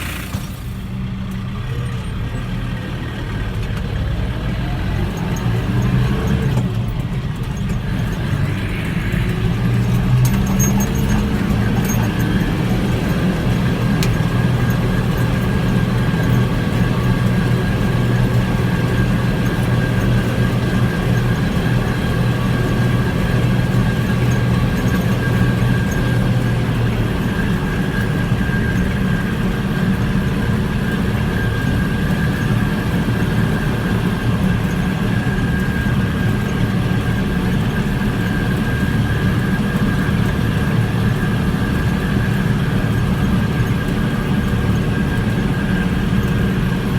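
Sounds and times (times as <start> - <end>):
tractor engine droning: 0.0 - 46.9.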